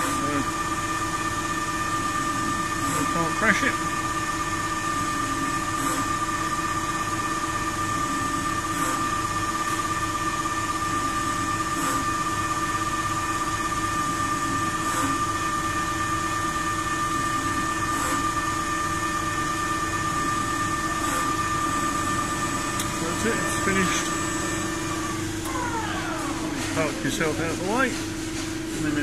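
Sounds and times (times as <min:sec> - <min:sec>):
lathe motor whine: 0:00.0 - 0:29.0.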